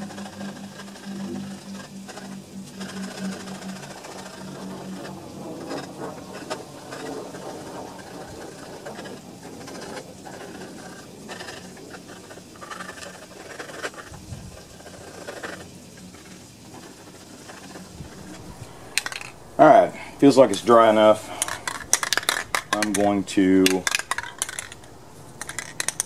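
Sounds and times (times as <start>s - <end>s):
rag rustling and scraping: 0.0s - 26.0s.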